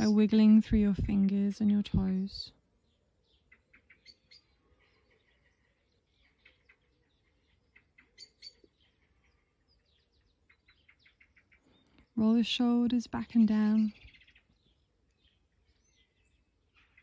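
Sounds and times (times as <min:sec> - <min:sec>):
faint high bird chirps: 0:01.6 - 0:17.0.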